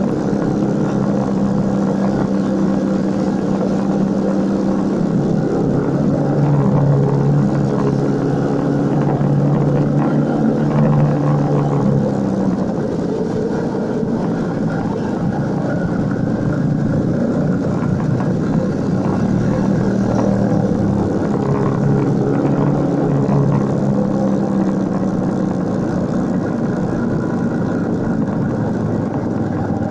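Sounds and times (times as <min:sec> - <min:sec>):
motorcycle engine running: 0:00.0 - 0:29.9
wind and road noise: 0:00.0 - 0:29.9.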